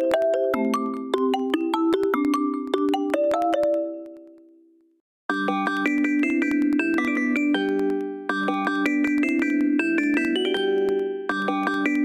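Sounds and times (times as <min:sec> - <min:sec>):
marimba-like ringtone melody: 0:00.0 - 0:04.5, 0:05.3 - 0:12.0.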